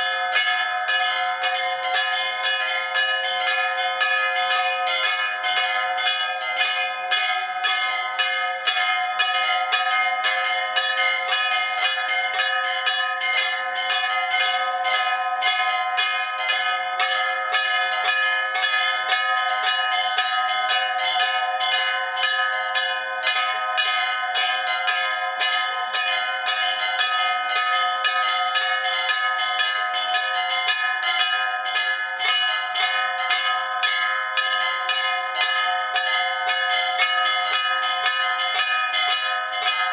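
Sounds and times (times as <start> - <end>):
temple bells ringing: 0.0 - 39.9.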